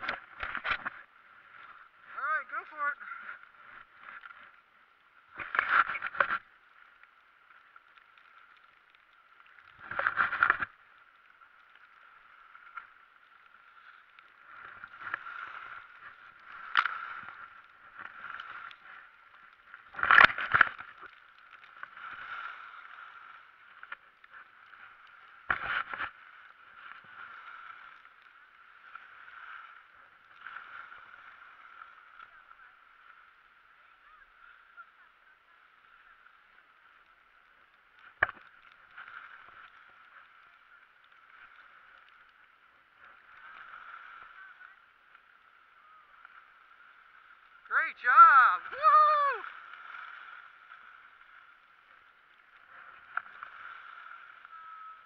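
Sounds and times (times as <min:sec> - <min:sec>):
skis scraping over packed snow: 0:00.0 - 0:55.0.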